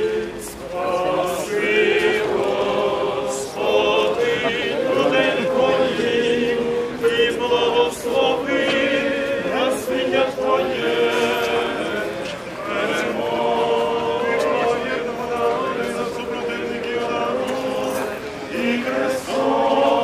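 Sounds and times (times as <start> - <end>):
choir singing a chant: 0.0 - 20.0.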